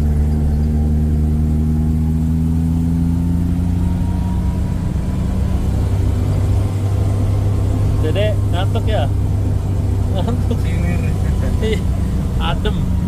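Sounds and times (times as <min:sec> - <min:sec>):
jeep engine humming: 0:00.0 - 0:13.0.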